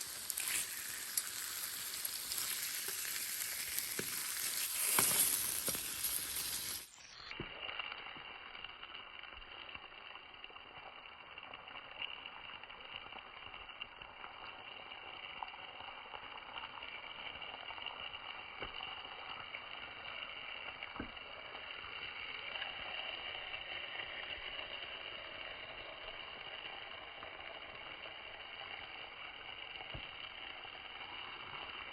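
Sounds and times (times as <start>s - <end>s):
food sizzling in a pan: 0.0s - 31.9s.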